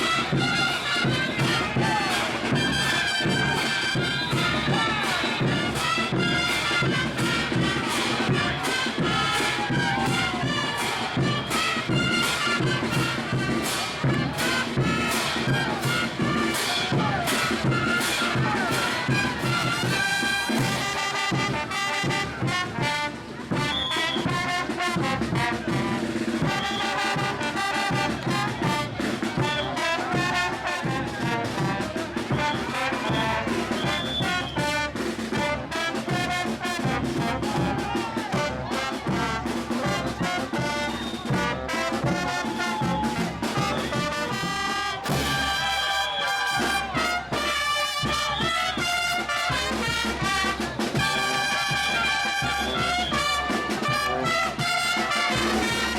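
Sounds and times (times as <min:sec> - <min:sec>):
brass band playing: 0:00.0 - 0:55.9.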